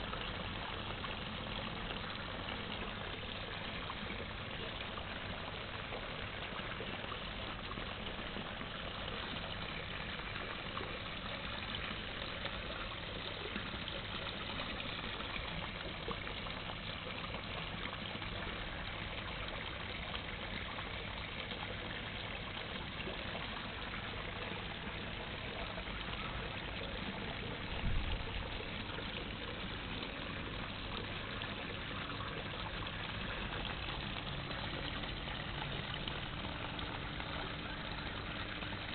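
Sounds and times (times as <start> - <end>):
low steady hum: 0.0 - 38.9
running water trickling: 0.0 - 38.9.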